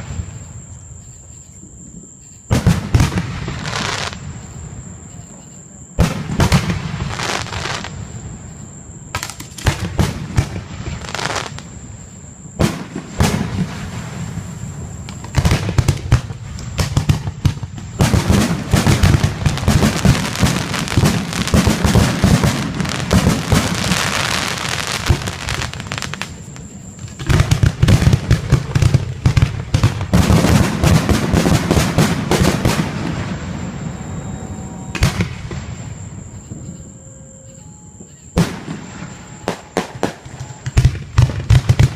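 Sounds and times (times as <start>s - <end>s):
fireworks bangs and crackling: 0.0s - 0.7s, 2.5s - 5.4s, 6.0s - 8.5s, 9.1s - 36.7s, 38.0s - 41.9s.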